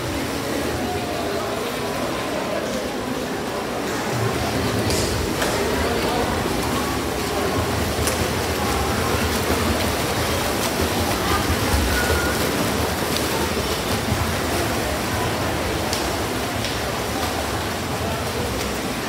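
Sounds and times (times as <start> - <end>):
crowd voices: 0.0 - 19.0
swimmers splashing: 0.0 - 19.0.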